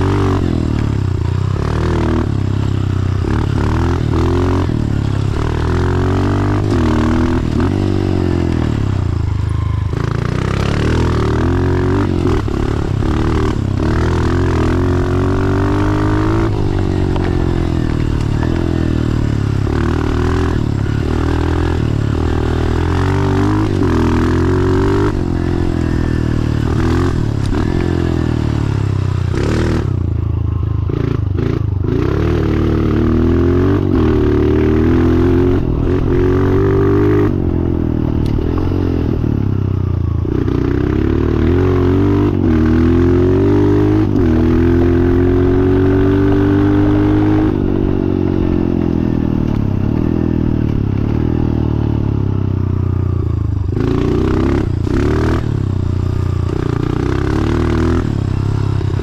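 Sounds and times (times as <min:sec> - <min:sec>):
dirt bike engine revving: 0:00.0 - 0:52.4, 0:53.4 - 0:59.0.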